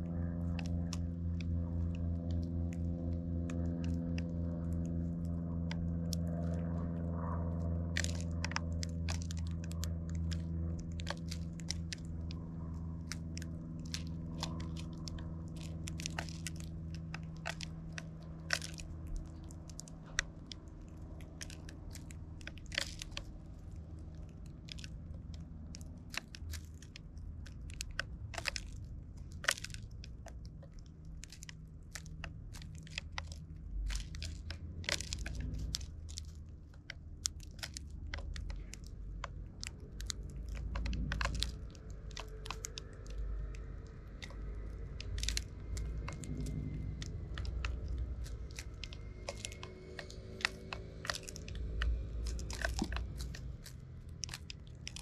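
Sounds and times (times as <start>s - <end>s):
birds cracking seeds: 0.0s - 55.0s
steady low hum: 0.0s - 55.0s.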